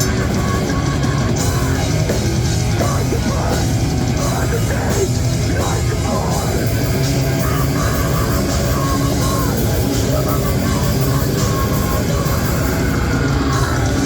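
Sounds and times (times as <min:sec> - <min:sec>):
live metal band playing: 0:00.0 - 0:14.0.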